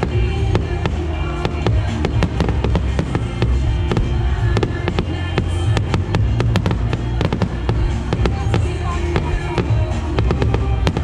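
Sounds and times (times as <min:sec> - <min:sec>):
fireworks bangs and cracks: 0:00.0 - 0:11.0
music playing: 0:00.0 - 0:11.0.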